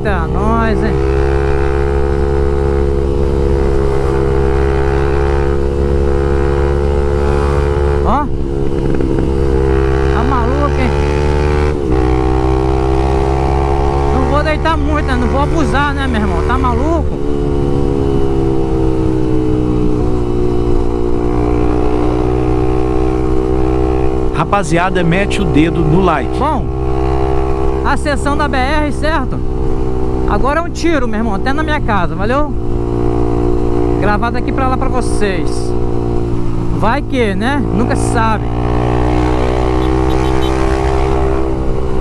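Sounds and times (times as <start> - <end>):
motorcycle engine riding: 0.0 - 42.0.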